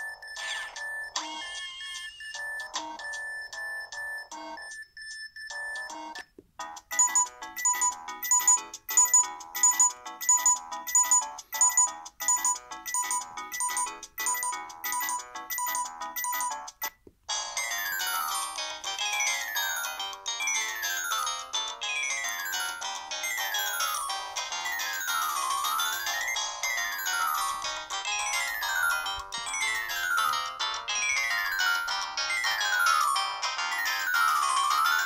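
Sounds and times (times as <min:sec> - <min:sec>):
ringtone of falling sweeps: 0:00.0 - 0:06.2, 0:06.9 - 0:16.8, 0:17.5 - 0:35.0
rhythmic chiming ringtone: 0:00.0 - 0:35.0.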